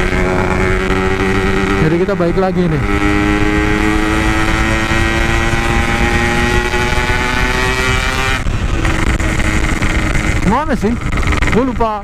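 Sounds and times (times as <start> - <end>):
two-stroke motorcycle engine: 0.0 - 12.0
wind rumble on microphone: 0.0 - 12.0.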